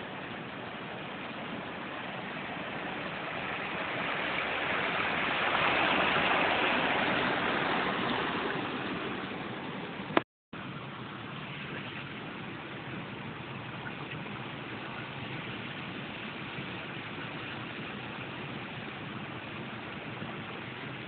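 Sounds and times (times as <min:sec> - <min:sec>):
floodwater rushing and splashing: 0:00.0 - 0:21.0.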